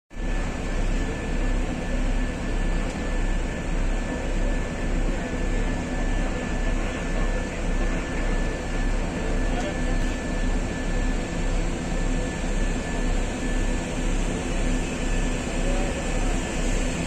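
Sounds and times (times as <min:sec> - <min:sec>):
turboprop engines rumbling and whining: 0:00.1 - 0:17.0.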